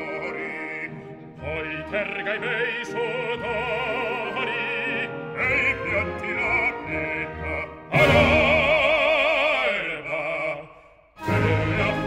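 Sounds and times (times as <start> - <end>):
operatic male singing: 0.0 - 12.0
orchestra: 0.0 - 12.0.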